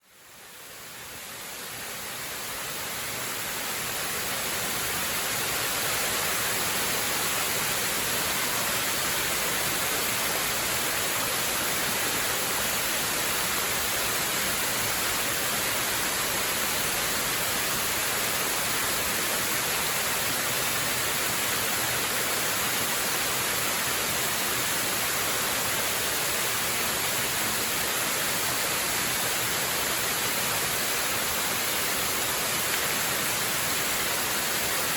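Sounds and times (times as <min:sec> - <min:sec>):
waterfall rushing: 0:00.7 - 0:34.9.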